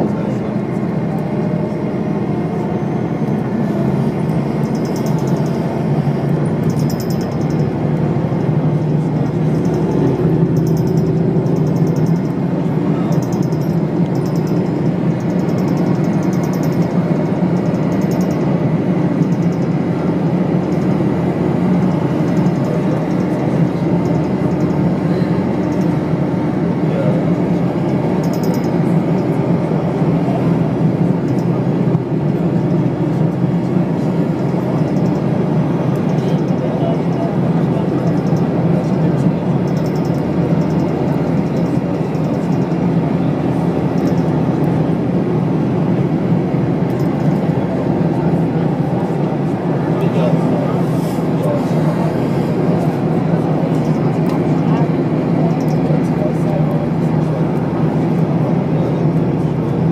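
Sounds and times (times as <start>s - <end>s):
bus engine drone: 0.0s - 59.9s
road rumble: 0.0s - 59.9s.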